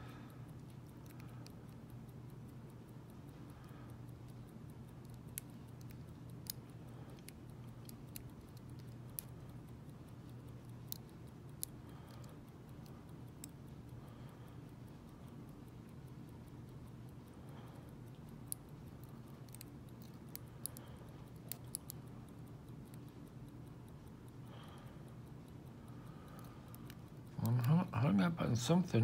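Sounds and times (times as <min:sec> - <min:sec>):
lock pick ticks and clicks: 0:00.0 - 0:28.9
low steady hum: 0:00.0 - 0:29.0.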